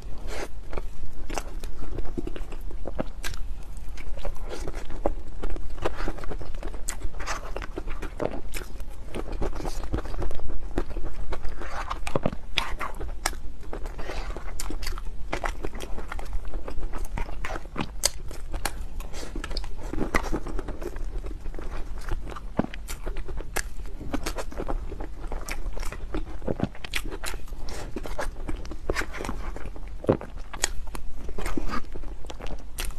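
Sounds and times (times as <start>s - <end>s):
person chewing cake: 0.0s - 32.9s.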